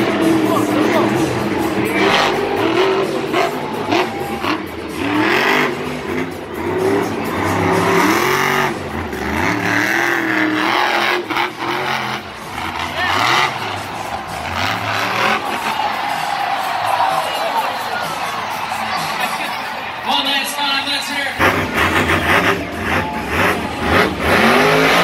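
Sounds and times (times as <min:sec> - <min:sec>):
monster truck engine revving: 0:00.0 - 0:18.8, 0:21.3 - 0:25.0.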